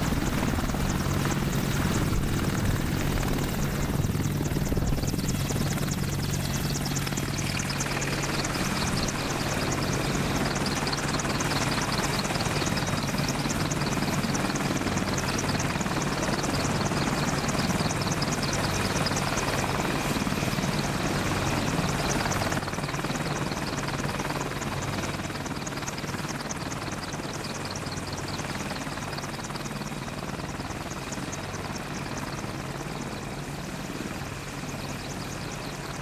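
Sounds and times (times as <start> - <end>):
helicopter rotor chopping: 0.0 - 36.0
helicopter turbine whine: 0.0 - 36.0.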